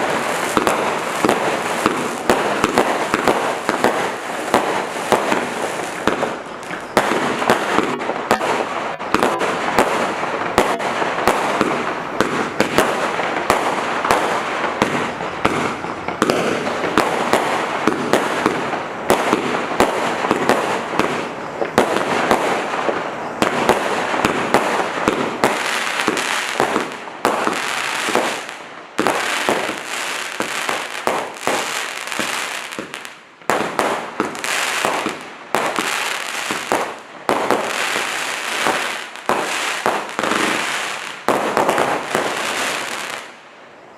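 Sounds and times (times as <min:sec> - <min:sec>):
firework shots and bursts: 0:00.0 - 0:43.4
firework crackling hiss: 0:00.0 - 0:43.8.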